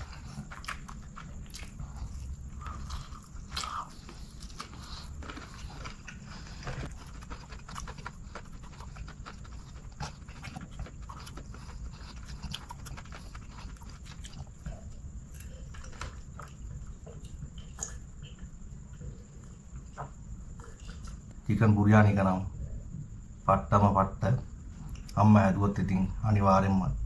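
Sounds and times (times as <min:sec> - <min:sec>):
close chewing and mouth sounds: 0:00.0 - 0:23.4, 0:24.4 - 0:26.1
steady low hum: 0:00.0 - 0:27.0.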